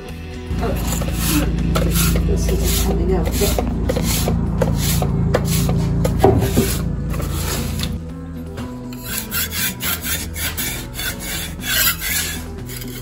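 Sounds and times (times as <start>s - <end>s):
metal scraper on concrete: 0.5s - 8.1s, 8.8s - 13.0s.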